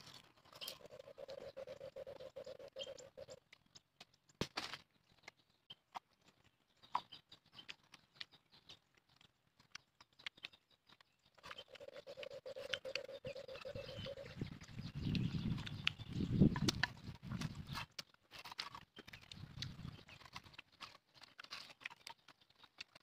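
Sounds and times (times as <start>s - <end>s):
chewing and lip smacks: 0.0s - 23.0s.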